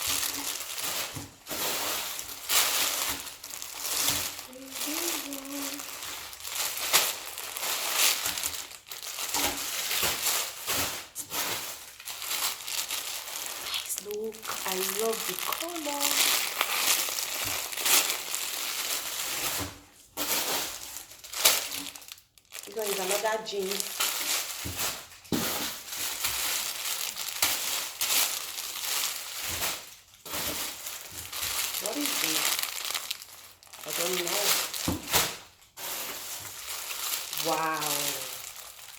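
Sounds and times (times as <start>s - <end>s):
packaging and clothes rustling: 0.0s - 38.9s.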